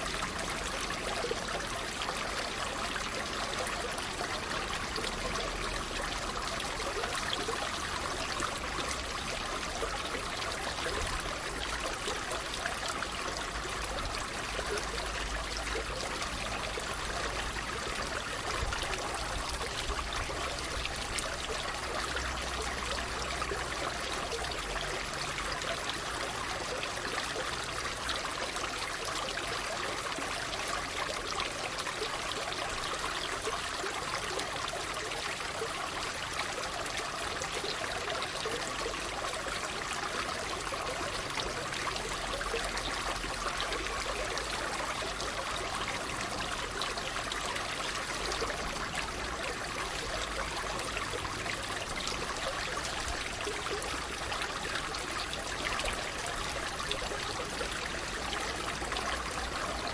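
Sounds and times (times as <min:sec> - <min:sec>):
water babbling and trickling: 0:00.0 - 0:59.9.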